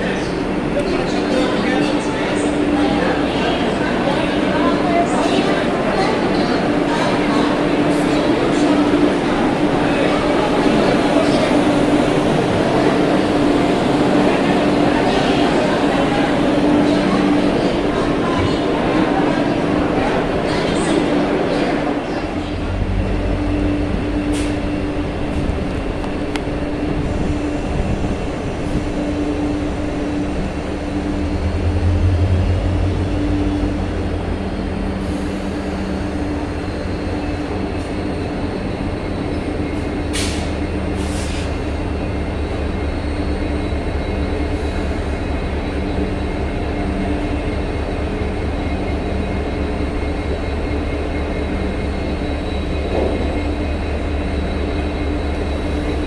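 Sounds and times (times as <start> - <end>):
train coach rumble and hum: 0.0 - 56.0.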